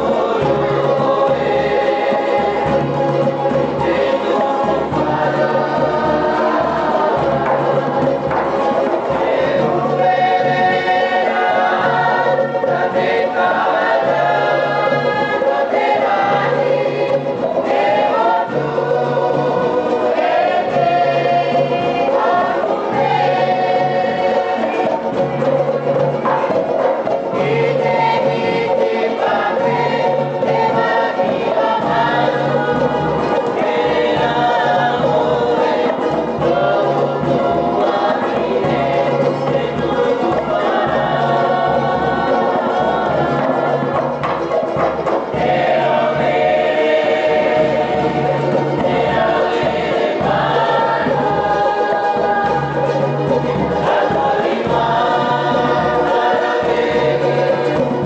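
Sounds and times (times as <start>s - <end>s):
group singing: 0.0s - 58.0s
strummed ukulele: 0.0s - 58.0s.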